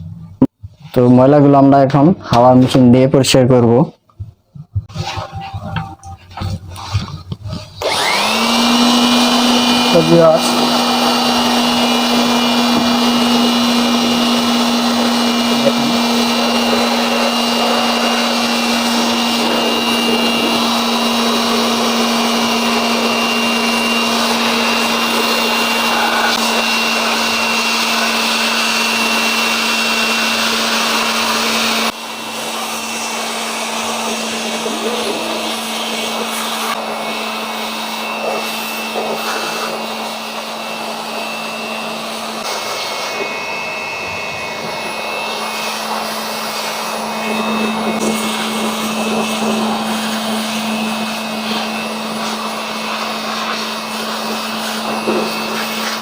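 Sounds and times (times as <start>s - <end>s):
electric air blower humming: 4.9s - 56.0s.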